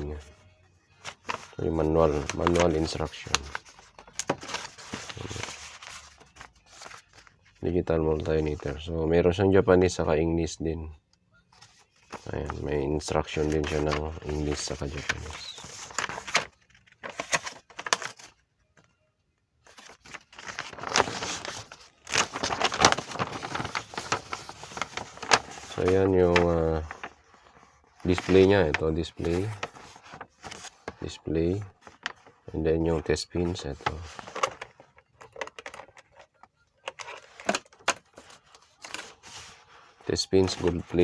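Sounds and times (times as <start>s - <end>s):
paper and packaging crinkling: 1.0s - 8.8s, 11.5s - 18.9s, 19.6s - 41.0s.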